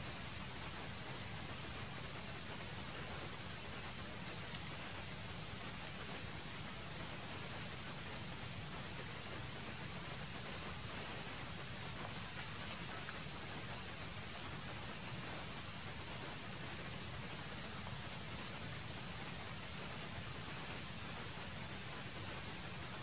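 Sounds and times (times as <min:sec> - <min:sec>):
insect chorus drone: 0:00.0 - 0:23.0.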